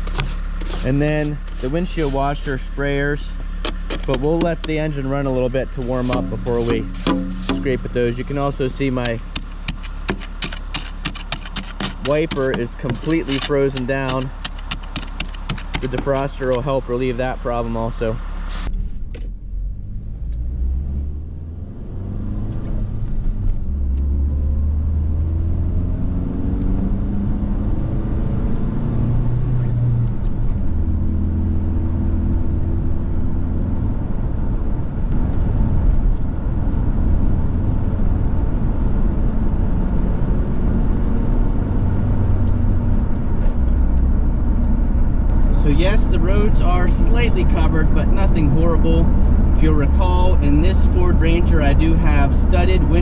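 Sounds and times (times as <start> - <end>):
car engine accelerating: 0.0 - 53.0
road noise rumble: 0.0 - 53.0.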